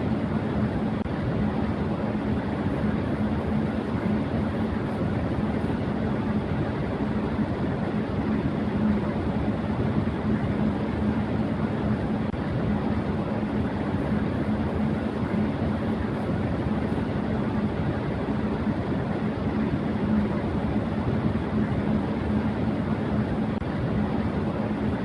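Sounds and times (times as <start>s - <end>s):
fan air rushing: 0.0s - 25.0s
fan motor humming: 0.0s - 25.0s.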